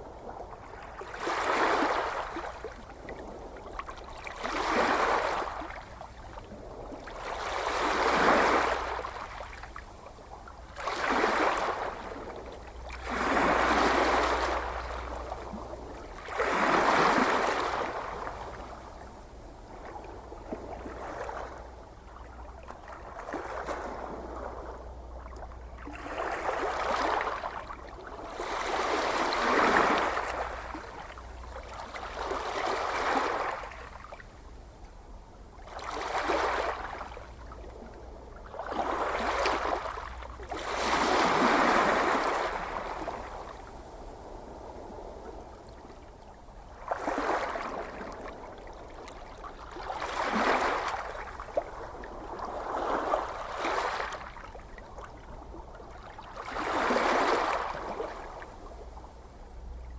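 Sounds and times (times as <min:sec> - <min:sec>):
ocean waves washing onto shore: 0:00.0 - 0:21.7, 0:25.8 - 0:34.2, 0:35.7 - 0:59.1.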